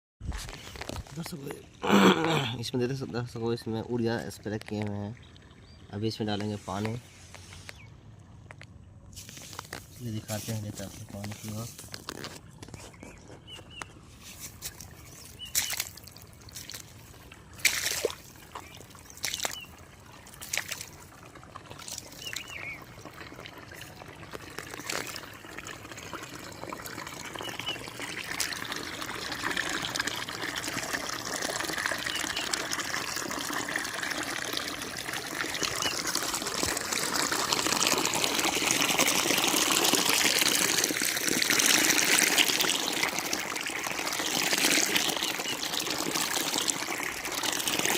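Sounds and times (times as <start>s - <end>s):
water trickling and pouring: 0.3s - 8.3s, 9.1s - 47.9s.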